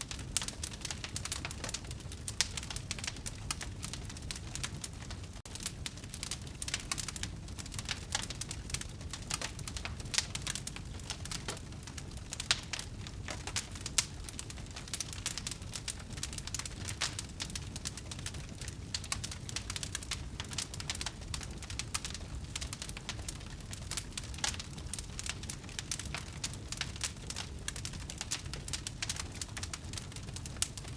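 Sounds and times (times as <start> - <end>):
low rumble of burning: 0.0 - 30.9
wood fire crackling and popping: 0.0 - 30.9.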